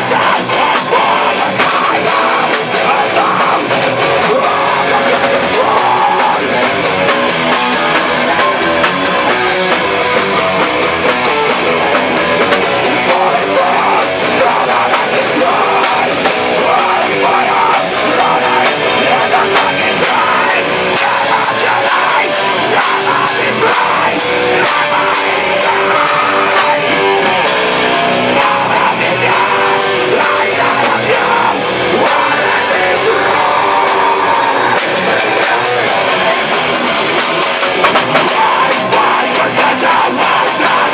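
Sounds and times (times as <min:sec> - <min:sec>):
heavy metal band playing: 0:00.0 - 0:40.9.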